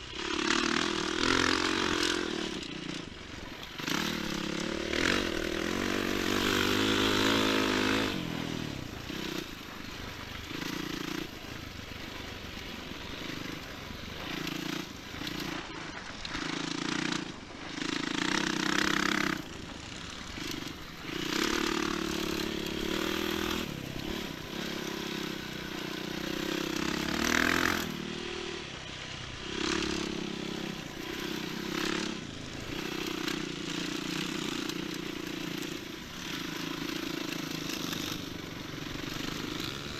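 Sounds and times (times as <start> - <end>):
motorcycle engine revving: 0.0 - 39.9
wind and dirt rushing: 0.0 - 39.9.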